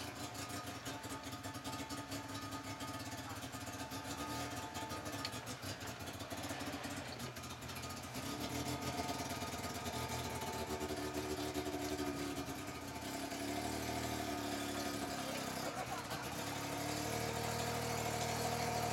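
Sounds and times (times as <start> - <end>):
off-road vehicle engine revving: 0.0 - 18.9.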